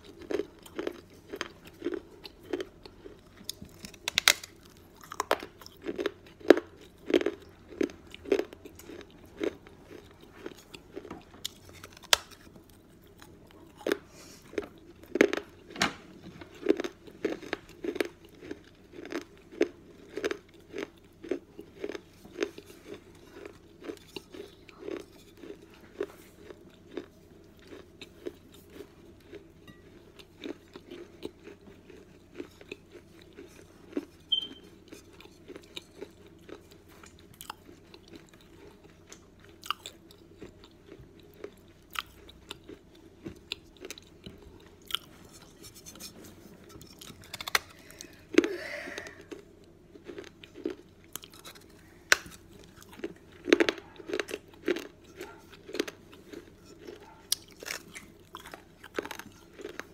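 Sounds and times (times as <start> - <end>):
clay cup being crunched and chewed: 0.0 - 15.6, 16.4 - 59.9.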